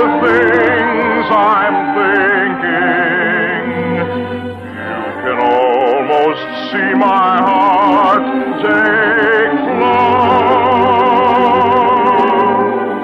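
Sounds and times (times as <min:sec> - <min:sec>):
orchestral music: 0:00.0 - 0:13.0.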